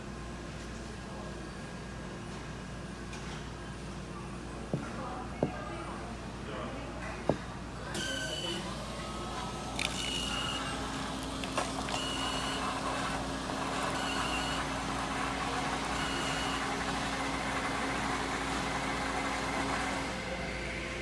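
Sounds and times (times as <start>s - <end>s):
vending machine hum: 0.0s - 21.0s.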